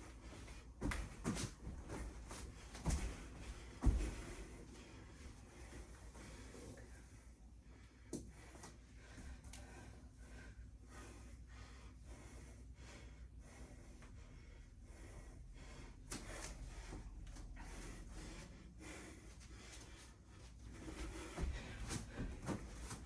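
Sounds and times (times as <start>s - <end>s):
woman breathing hard: 1.9s - 23.0s.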